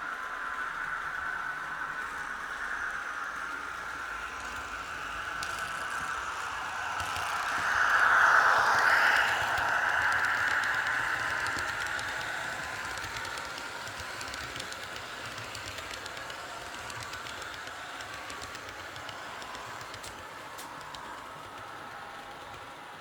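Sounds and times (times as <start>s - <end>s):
model train wheels clicking: 0.0s - 23.0s.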